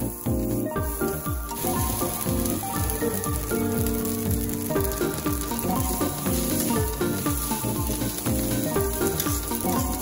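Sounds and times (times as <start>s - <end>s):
background music with steady beat: 0.0s - 10.0s
food sizzling on a griddle: 0.0s - 10.0s.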